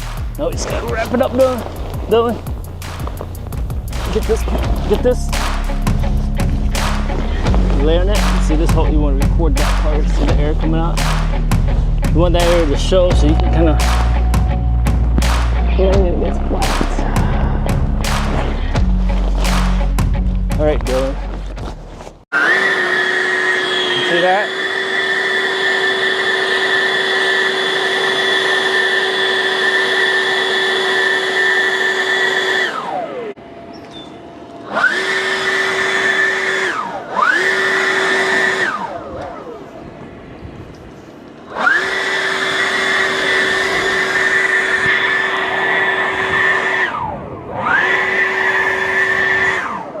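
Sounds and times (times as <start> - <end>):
electric blower motor whining: 0.0 - 21.4, 22.3 - 50.0.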